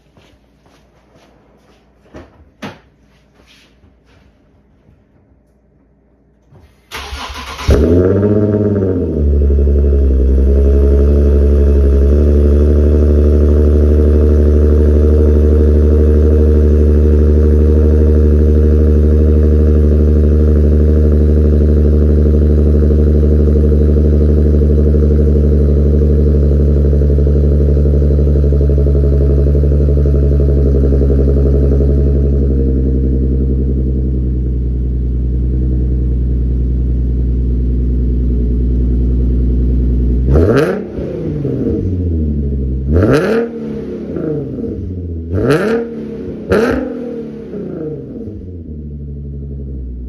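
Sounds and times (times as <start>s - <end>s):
car exhaust idling with deep drone: 7.7s - 50.0s.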